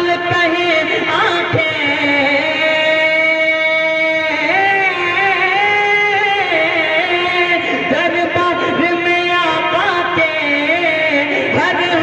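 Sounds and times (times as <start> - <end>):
person singing long melodic notes: 0.0 - 12.0.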